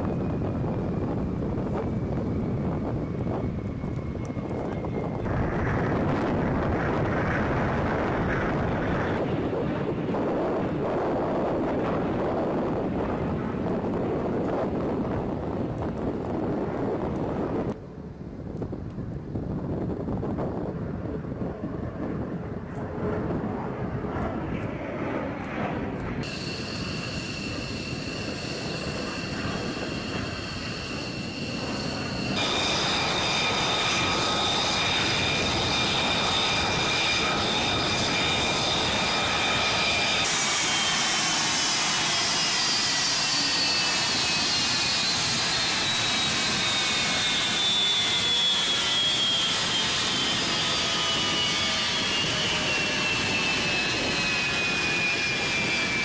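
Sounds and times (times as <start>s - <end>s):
jet engine rush and whine: 0.0s - 56.0s.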